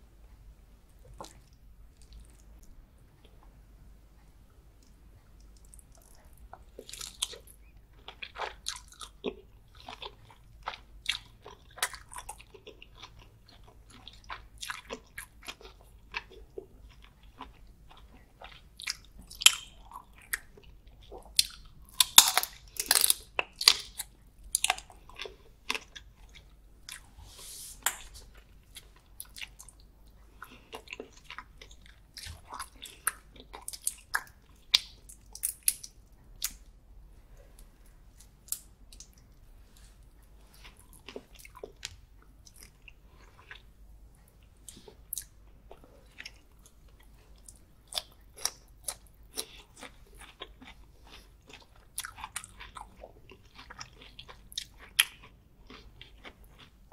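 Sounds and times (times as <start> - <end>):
close chewing and biting: 5.4 - 27.2, 27.8 - 36.6, 40.5 - 43.7, 44.6 - 56.9.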